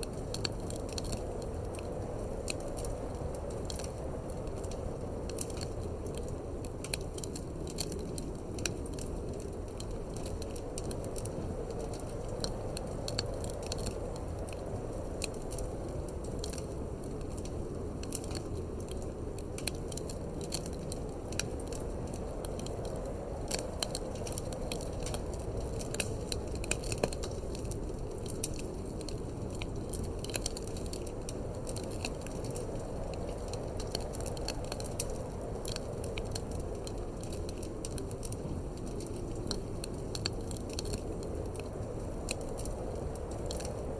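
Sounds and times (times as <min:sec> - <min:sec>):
low rush of wind: 0:00.0 - 0:43.9
wood fire crackling and popping: 0:00.0 - 0:43.9.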